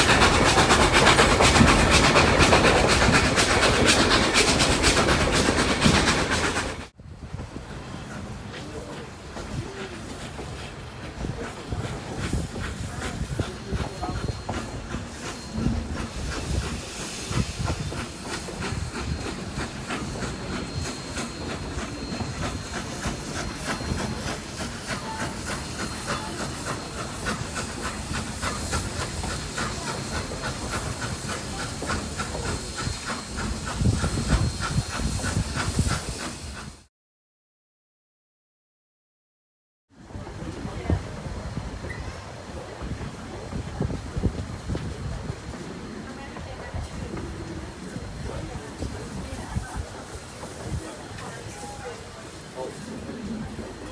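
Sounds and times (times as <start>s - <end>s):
steam hissing: 0.0s - 7.0s, 7.6s - 36.9s, 40.3s - 53.9s.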